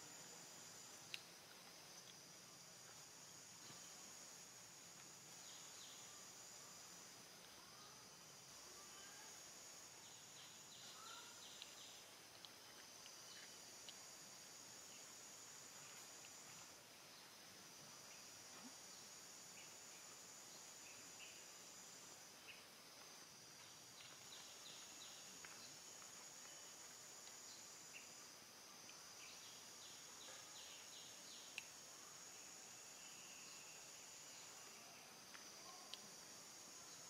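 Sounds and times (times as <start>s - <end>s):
rapid insect chirps: 0.0s - 37.0s.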